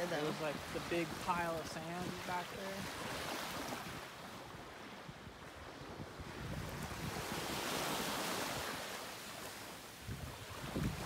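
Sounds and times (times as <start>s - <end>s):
wind on microphone: 0.0s - 8.9s, 9.9s - 11.0s
waves washing on sandy shore: 0.0s - 11.0s.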